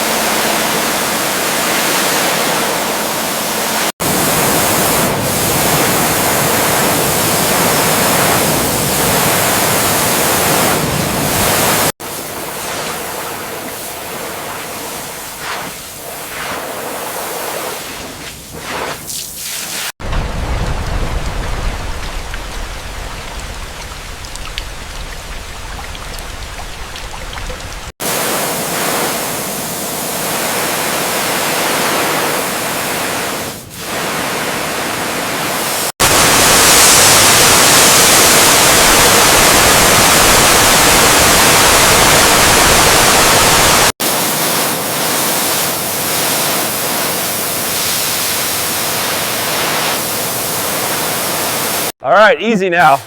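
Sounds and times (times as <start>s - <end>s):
high-pressure water spray hissing: 0.0s - 20.0s, 28.0s - 52.0s.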